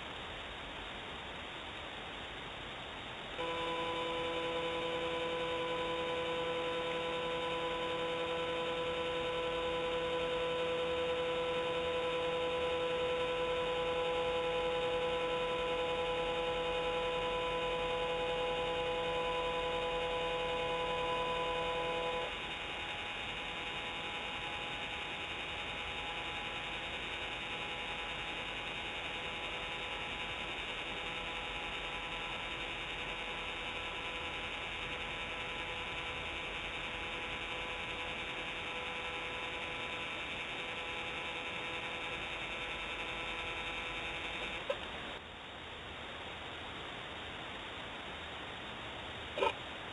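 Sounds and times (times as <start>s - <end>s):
electrical hum: 0.0s - 49.9s.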